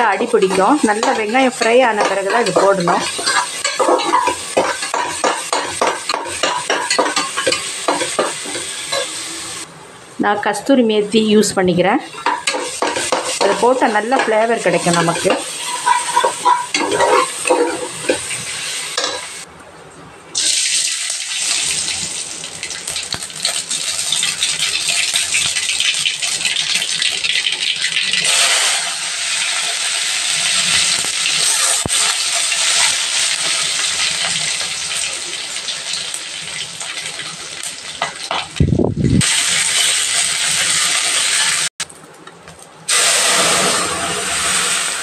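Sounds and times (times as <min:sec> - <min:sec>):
hot oil sizzling and crackling: 0:00.0 - 0:09.7, 0:11.9 - 0:19.5, 0:20.3 - 0:42.2, 0:42.8 - 0:45.0
onions frying: 0:00.0 - 0:09.7, 0:11.8 - 0:19.5, 0:20.4 - 0:42.2, 0:42.9 - 0:45.0.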